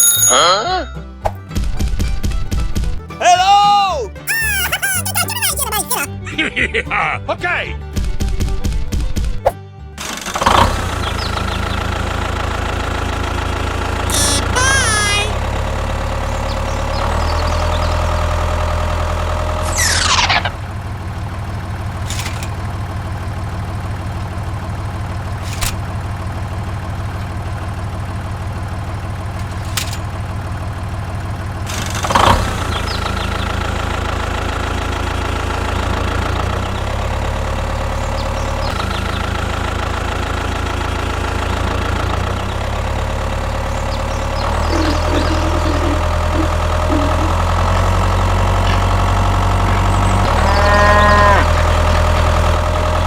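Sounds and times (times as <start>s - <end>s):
tractor engine idling: 10.0s - 53.0s.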